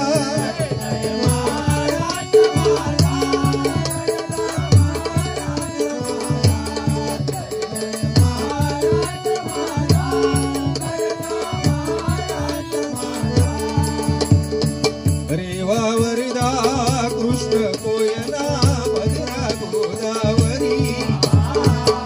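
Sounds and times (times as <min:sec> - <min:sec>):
hand drum rhythm: 0:00.0 - 0:22.0
harmonium sustained notes: 0:00.0 - 0:22.0.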